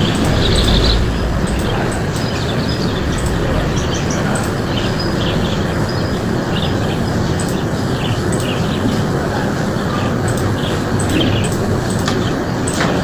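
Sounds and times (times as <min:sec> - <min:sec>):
birds chirping: 0:00.0 - 0:13.0
loud steady rushing noise: 0:00.0 - 0:13.0.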